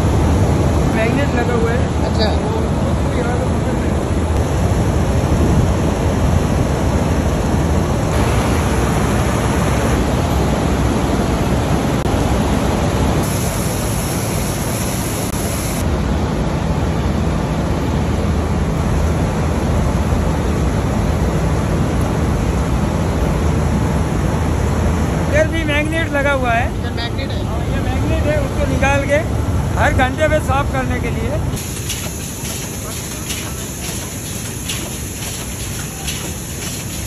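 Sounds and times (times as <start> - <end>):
machinery mechanical drone: 0.0 - 37.0.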